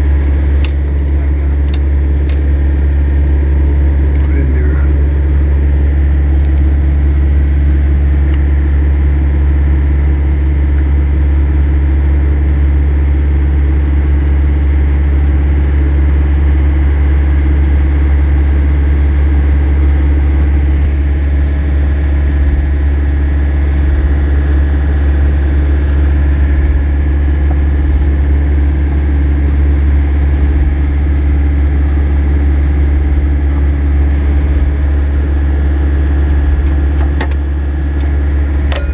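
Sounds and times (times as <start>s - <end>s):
large engine idling: 0.0s - 38.9s.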